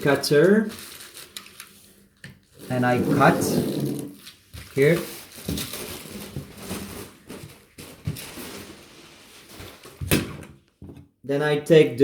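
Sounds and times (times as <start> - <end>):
bubble wrap rustling and crinkling: 0.0 - 10.1.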